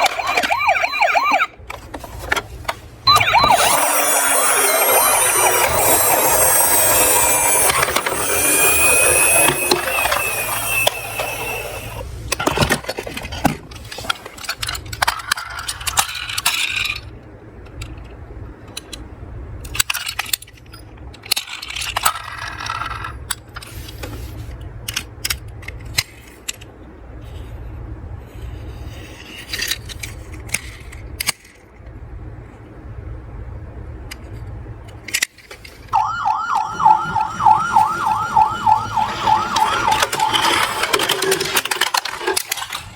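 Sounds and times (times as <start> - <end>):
toy cars clattering and rolling: 0.0 - 27.5, 28.3 - 32.0, 34.0 - 42.9.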